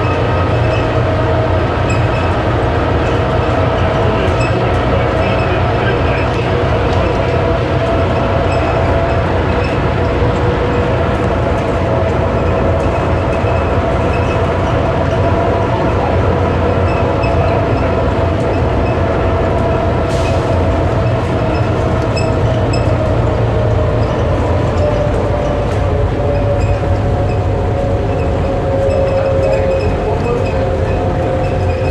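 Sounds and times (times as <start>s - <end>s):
train rumbling in tunnel: 0.0s - 31.9s.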